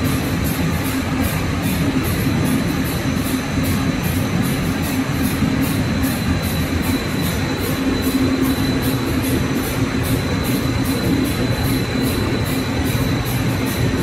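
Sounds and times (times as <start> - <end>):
high machine whine: 0.0 - 14.0
printing machine drone: 0.0 - 14.0
rapid hissing pulse: 0.0 - 14.0.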